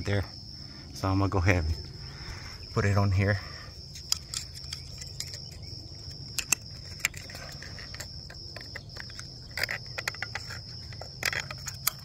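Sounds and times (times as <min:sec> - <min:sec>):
high insect chirr: 0:00.0 - 0:12.0.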